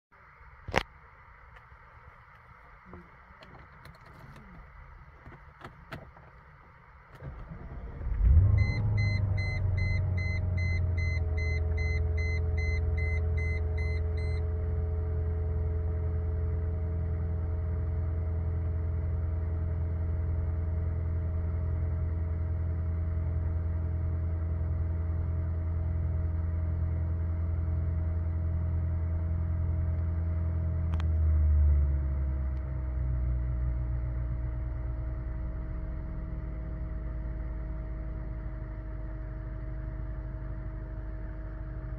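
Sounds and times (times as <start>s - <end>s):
car engine starting and idling: 0.2s - 41.9s.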